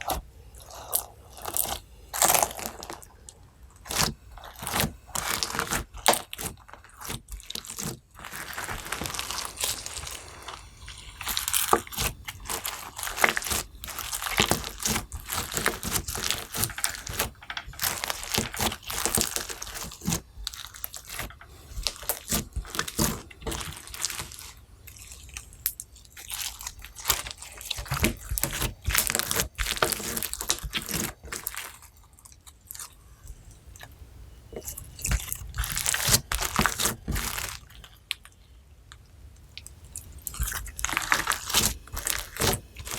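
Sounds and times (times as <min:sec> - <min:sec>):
slime crackling and popping: 0:00.0 - 0:33.0, 0:34.5 - 0:38.3, 0:39.4 - 0:42.9.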